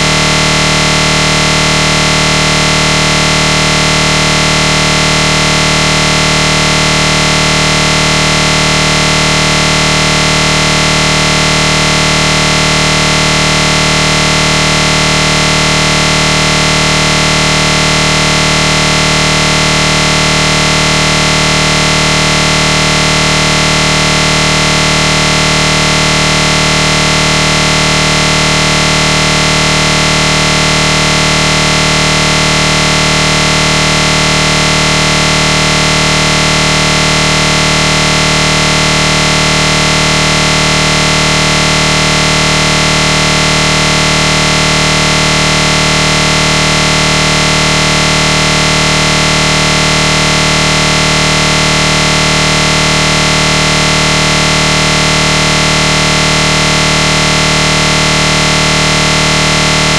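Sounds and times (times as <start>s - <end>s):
loud steady buzz: 0.0s - 59.9s.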